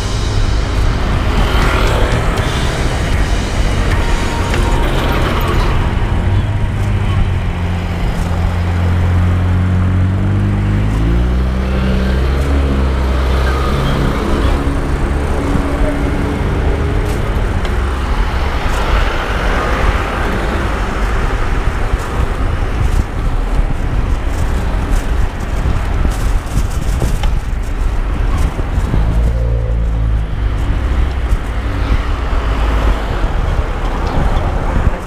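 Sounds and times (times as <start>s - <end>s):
road and air noise: 0.0s - 35.0s
vehicle engine speeding up: 0.0s - 35.0s.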